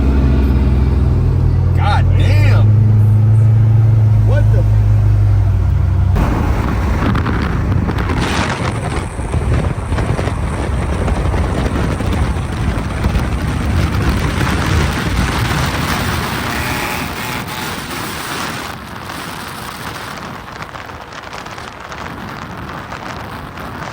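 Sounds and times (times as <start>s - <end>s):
road noise: 0.0s - 23.9s
wind buffeting microphone: 0.0s - 23.9s.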